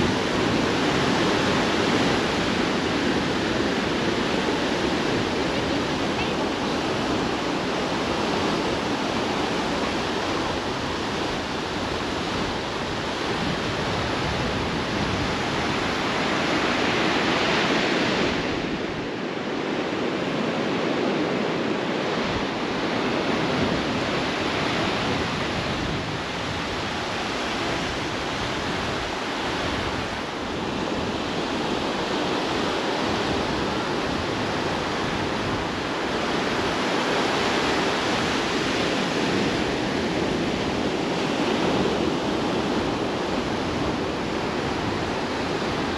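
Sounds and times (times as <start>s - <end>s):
ocean surf washing onto beach: 0.0s - 45.9s
wind rumble on microphone: 0.0s - 45.9s.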